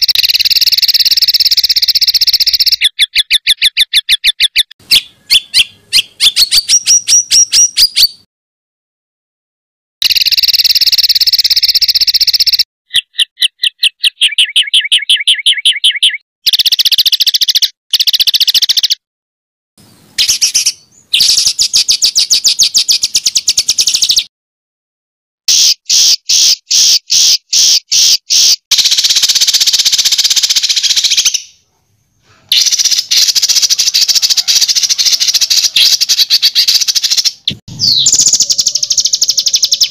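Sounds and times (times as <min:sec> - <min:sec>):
songbird trilling calls: 0:00.0 - 0:08.2, 0:10.0 - 0:19.0, 0:19.8 - 0:24.3, 0:25.5 - 0:31.6, 0:32.6 - 0:39.9.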